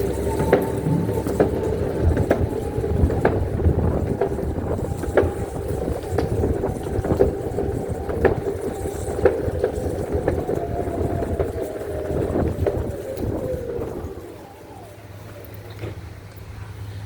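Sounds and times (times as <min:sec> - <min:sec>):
motor humming: 0:00.0 - 0:16.7.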